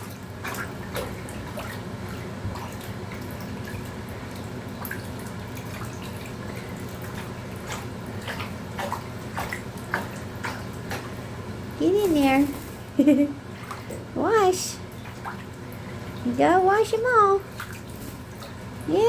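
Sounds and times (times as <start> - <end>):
water drips and splashes: 0.0 - 13.0, 14.7 - 19.0
water running in tiled room: 0.0 - 19.0.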